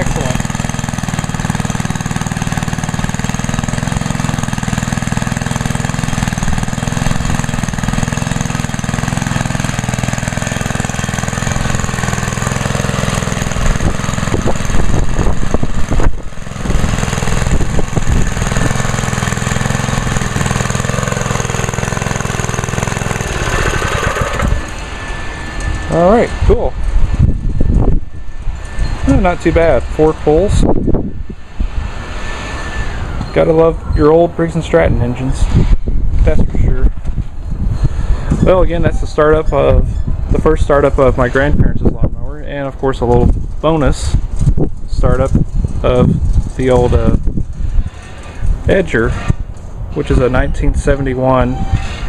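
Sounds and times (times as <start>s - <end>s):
small engine running: 0.0s - 41.7s, 42.5s - 52.0s.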